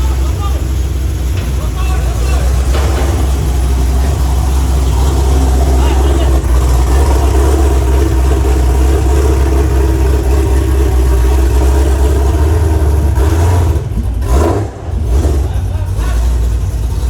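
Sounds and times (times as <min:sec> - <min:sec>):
low exhaust rumble: 0:00.0 - 0:17.0.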